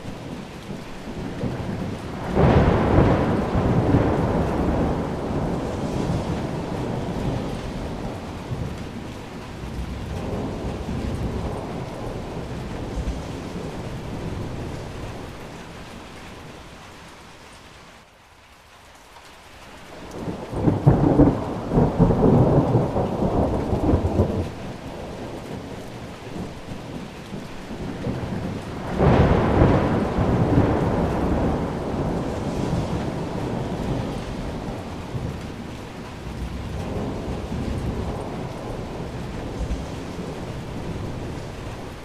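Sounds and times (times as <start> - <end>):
thunder rumbling: 0.0 - 17.2, 19.9 - 42.0
heavy rain: 0.0 - 42.0.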